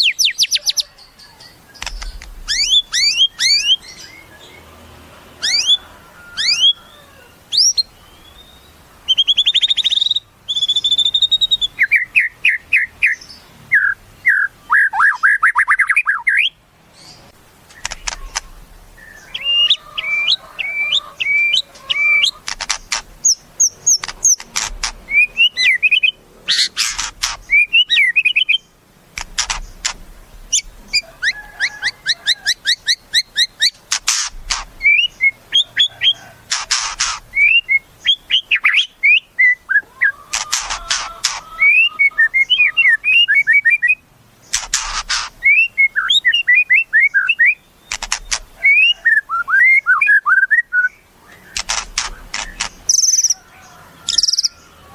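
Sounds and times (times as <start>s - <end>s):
songbird whistling and chattering: 0.0s - 4.3s, 5.4s - 54.7s
harsh rattling bird calls: 0.0s - 54.9s.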